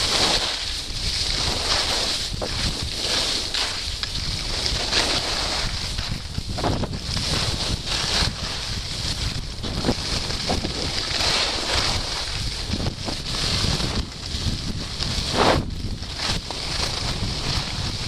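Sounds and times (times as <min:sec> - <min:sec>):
skis scraping on turns: 0:00.0 - 0:18.0
skis sliding on snow: 0:00.0 - 0:18.0
wind buffeting microphone: 0:00.8 - 0:18.0.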